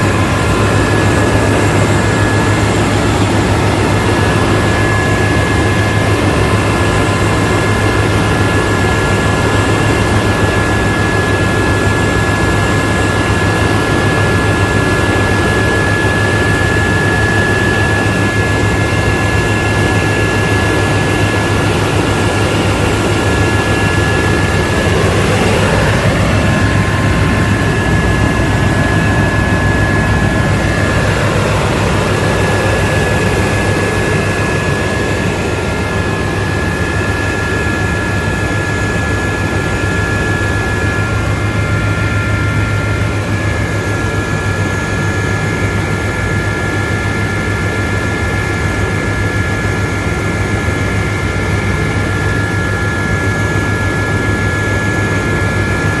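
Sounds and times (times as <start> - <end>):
helicopter rotors droning: 0.0 - 56.0
turboshaft engine whine: 0.0 - 56.0.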